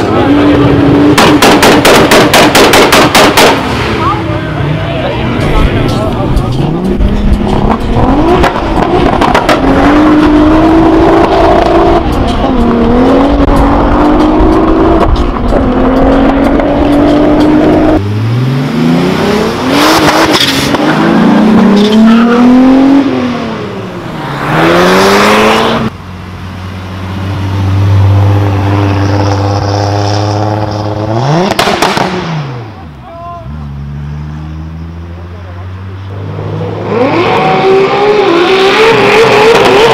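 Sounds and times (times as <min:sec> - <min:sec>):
car engine accelerating: 0:00.0 - 0:39.9
car engine revving: 0:00.0 - 0:39.9.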